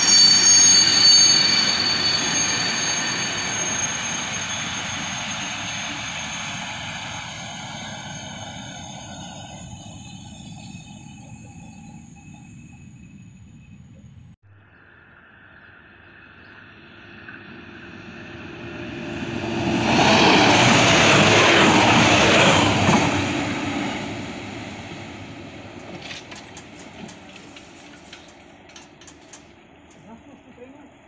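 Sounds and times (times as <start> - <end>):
diesel train passing by: 0.0 - 31.0.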